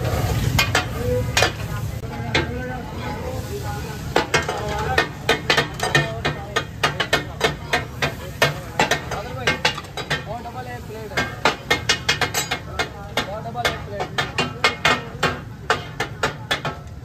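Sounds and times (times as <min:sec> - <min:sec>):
food sizzling: 0:00.0 - 0:17.0
metal spatulas clacking on griddle: 0:00.5 - 0:02.7, 0:04.1 - 0:17.0.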